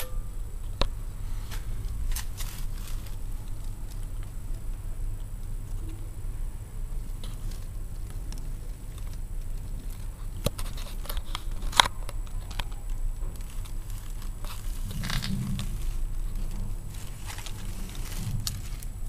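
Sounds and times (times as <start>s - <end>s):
low hum: 0.0s - 19.0s
rustling through plant leaves: 0.0s - 19.0s.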